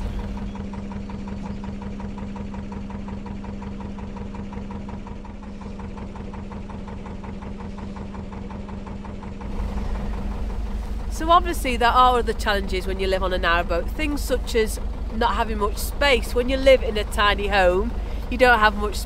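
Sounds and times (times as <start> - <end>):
diesel boat engine humming: 0.0 - 19.0.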